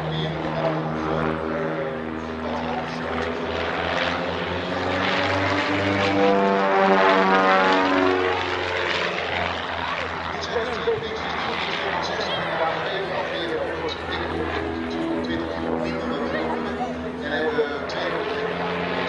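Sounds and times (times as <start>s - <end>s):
biplane engines droning: 0.0s - 19.0s.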